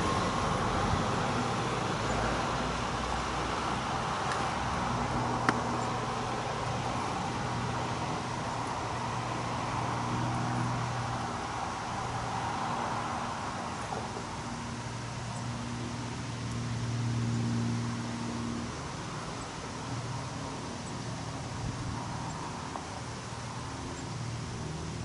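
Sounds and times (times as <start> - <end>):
outdoor noise: 0.0 - 25.0
vehicle engine humming: 0.0 - 25.0.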